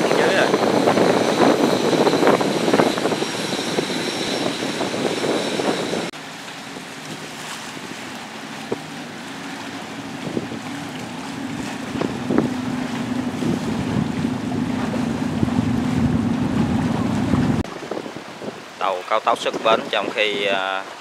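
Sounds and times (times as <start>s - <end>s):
boat engine humming: 0.0s - 19.1s
wind buffeting microphone: 0.0s - 20.8s
choppy water washing: 0.0s - 21.0s.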